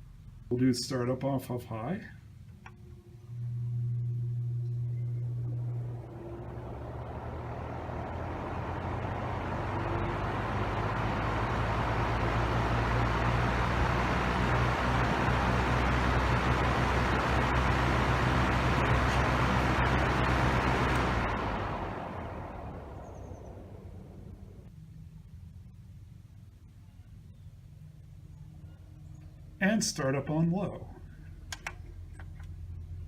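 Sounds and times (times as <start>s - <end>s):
fan air rush: 0.0s - 26.8s
fan motor hum: 0.0s - 33.0s.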